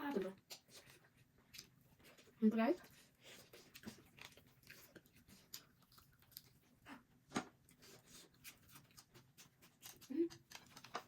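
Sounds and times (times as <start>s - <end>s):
person chewing: 0.4s - 11.0s.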